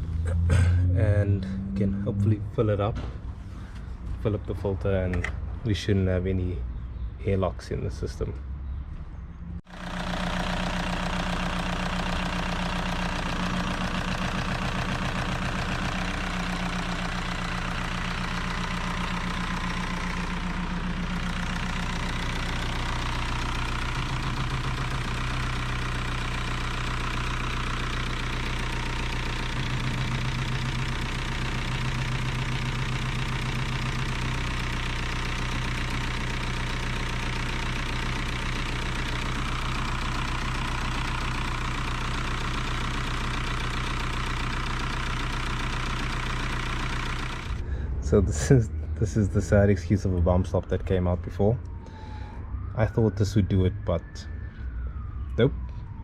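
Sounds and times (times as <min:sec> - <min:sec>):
diesel engine idling: 0:00.0 - 0:07.8, 0:09.6 - 0:56.0.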